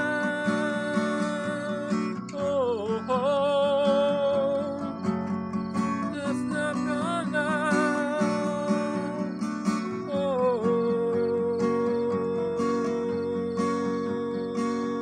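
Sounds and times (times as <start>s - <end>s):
acoustic guitar strumming: 0.0s - 15.0s
man singing wordlessly: 0.0s - 15.0s.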